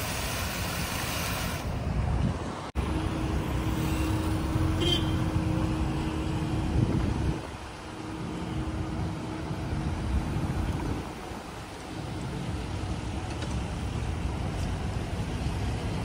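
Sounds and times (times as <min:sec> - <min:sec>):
car engines and tyres passing: 0:01.5 - 0:16.0.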